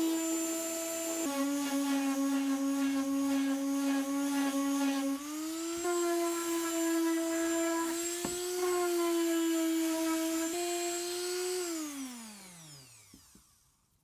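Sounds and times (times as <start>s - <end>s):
power tool motor whining: 0.0s - 13.6s.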